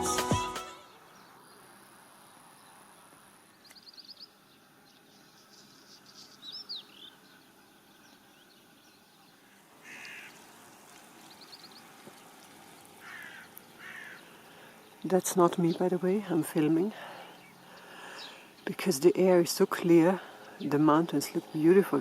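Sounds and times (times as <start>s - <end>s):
faint wild birds calling: 0.8s - 22.0s.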